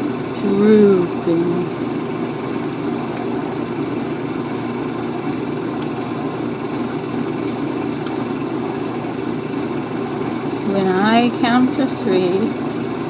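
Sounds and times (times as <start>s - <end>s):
washing machine spinning: 0.0s - 13.0s.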